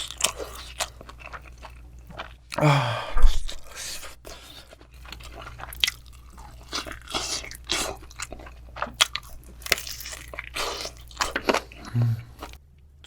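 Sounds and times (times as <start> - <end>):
crunching fried chicken: 0.0 - 2.6, 4.3 - 12.6.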